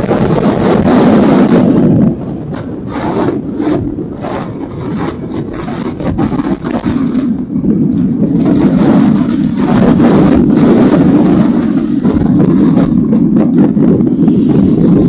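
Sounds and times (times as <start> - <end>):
motorcycle engine and exhaust: 0.0 - 15.0
uneven rubbing and scraping: 2.5 - 15.0.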